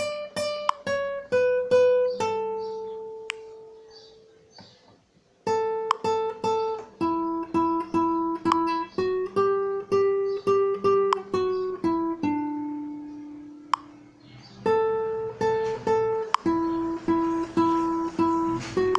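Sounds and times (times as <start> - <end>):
acoustic guitar plucked notes: 0.0 - 4.8, 5.4 - 18.9.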